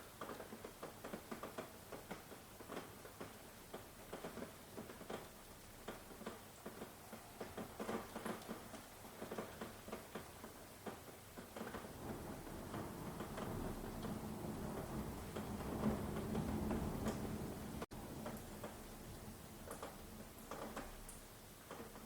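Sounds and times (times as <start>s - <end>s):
faint steady hiss: 0.0s - 22.0s
heavy raindrops pattering: 0.0s - 22.0s.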